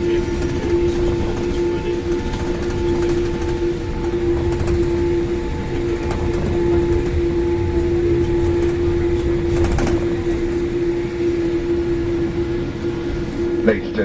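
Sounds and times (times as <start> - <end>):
aircraft cabin hum: 0.0 - 14.0.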